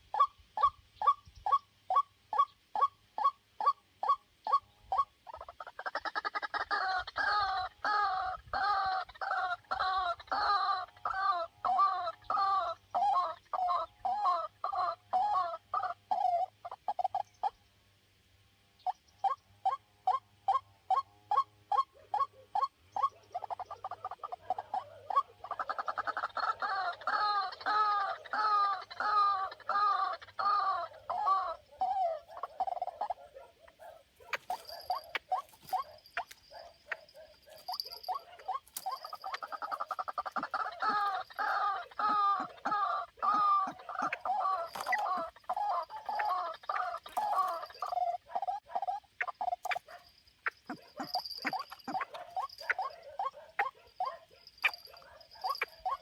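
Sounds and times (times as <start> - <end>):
waterhen croaking calls: 0.0 - 17.6, 18.8 - 56.0.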